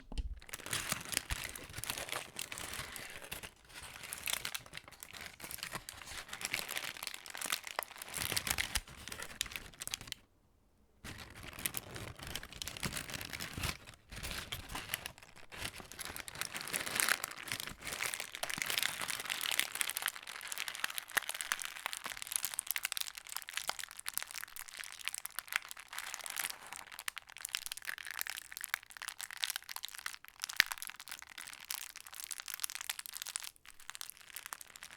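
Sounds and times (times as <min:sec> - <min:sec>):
plastic bag crinkling: 0:00.0 - 0:10.2, 0:11.1 - 0:29.6, 0:30.5 - 0:34.9.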